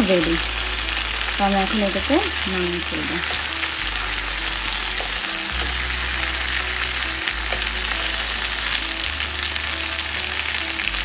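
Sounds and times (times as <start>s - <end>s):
background music: 0.0s - 11.0s
chicken sizzling in oil: 0.0s - 11.0s.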